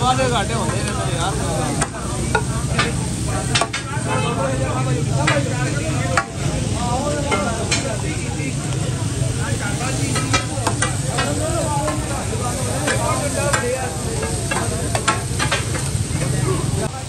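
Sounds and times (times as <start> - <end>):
food sizzling on griddle: 0.0 - 17.0.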